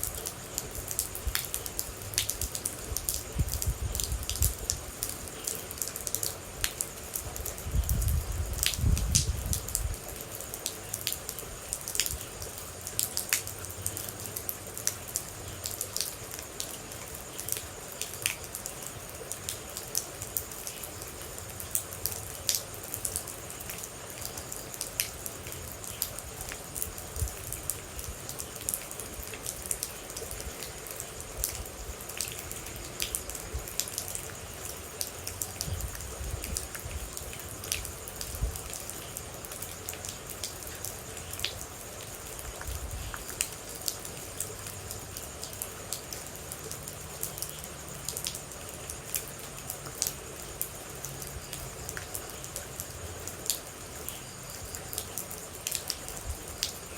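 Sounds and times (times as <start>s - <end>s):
rain hissing: 0.0s - 56.9s
water drips: 0.0s - 56.9s.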